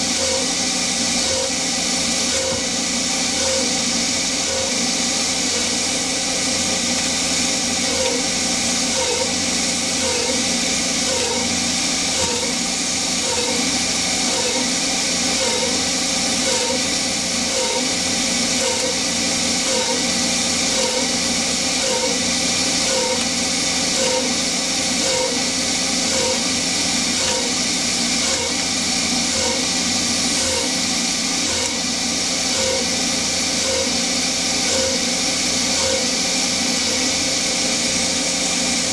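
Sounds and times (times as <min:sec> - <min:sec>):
air compressor running: 0:00.0 - 0:38.9
lathe turning metal: 0:00.0 - 0:38.9.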